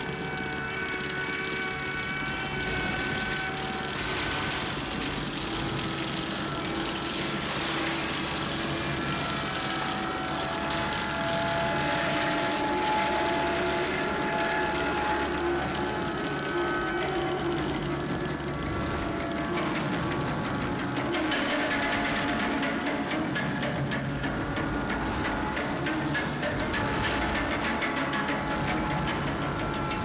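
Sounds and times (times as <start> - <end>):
dense rumble and hiss: 0.0 - 30.0
sustained tones: 0.0 - 30.0.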